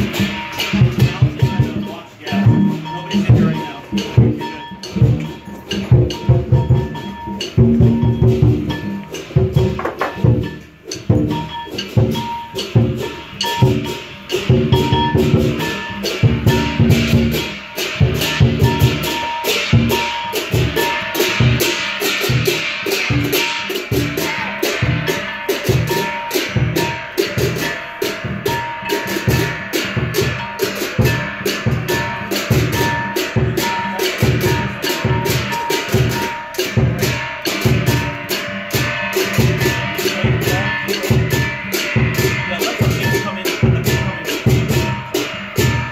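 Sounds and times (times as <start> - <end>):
cymbals crashing: 0.0 - 45.9
drum beating: 0.0 - 45.9.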